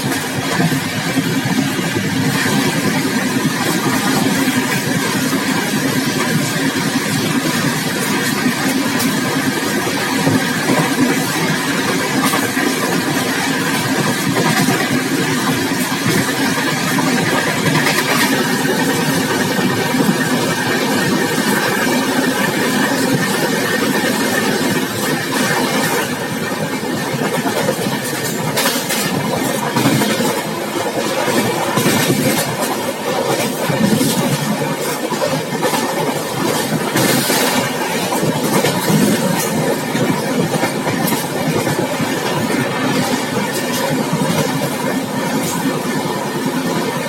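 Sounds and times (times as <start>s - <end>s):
train wheels rumbling on track: 0.0s - 47.0s.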